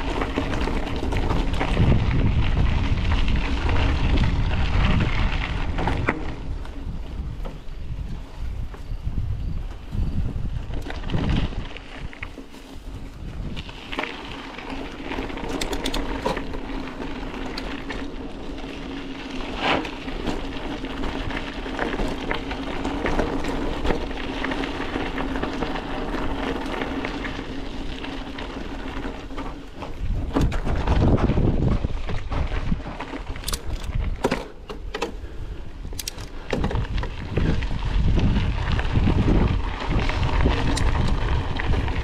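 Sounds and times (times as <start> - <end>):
bicycle tyres crunching on gravel: 0.0 - 42.0
bike rattling over bumps: 0.0 - 42.0
wind buffeting microphone: 0.0 - 42.0.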